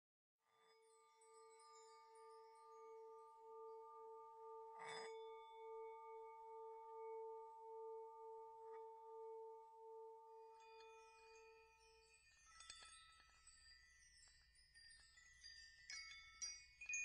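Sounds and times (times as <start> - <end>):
pulsing bell-like ringing tone: 0.7 - 17.0.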